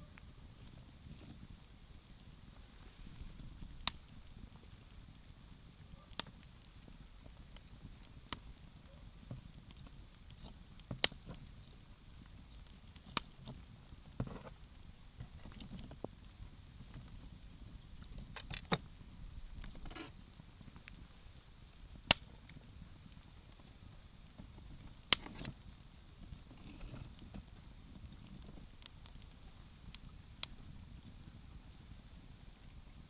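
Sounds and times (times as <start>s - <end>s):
wood fire crackling: 0.0s - 33.0s
sharp fire pops: 0.1s - 32.0s.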